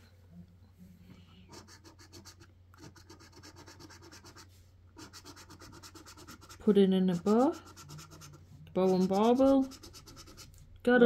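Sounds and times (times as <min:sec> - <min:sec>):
scratchcard being scratched: 0:01.5 - 0:10.6.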